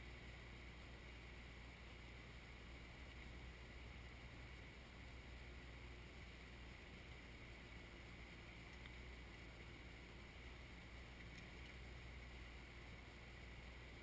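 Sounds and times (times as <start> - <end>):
faint tractor diesel engine running: 0.0 - 14.0.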